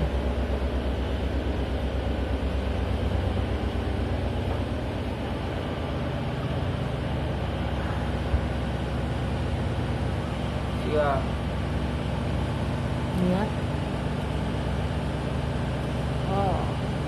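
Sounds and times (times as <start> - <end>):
ship diesel engine humming: 0.0 - 17.0.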